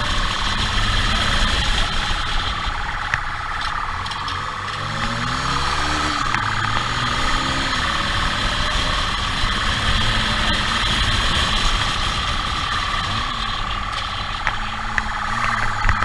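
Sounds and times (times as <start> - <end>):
motorcycle engine running: 0.0 - 16.0
rushing noise: 0.0 - 16.0.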